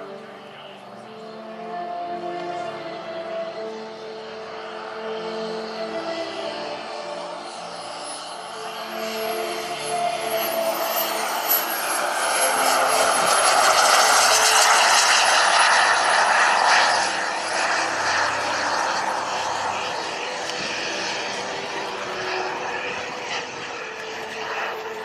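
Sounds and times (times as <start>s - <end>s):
high turbine whistle: 0.0s - 25.0s
rushing jet noise: 3.4s - 25.0s.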